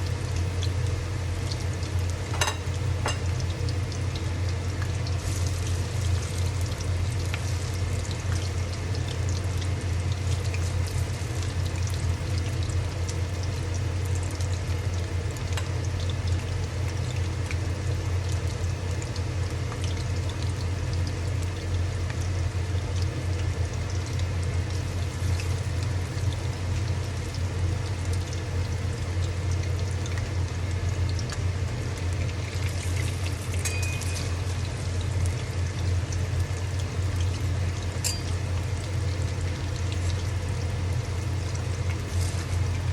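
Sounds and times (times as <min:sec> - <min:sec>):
constant low hum: 0:00.0 - 0:42.9
food deep-frying in oil: 0:00.0 - 0:42.9.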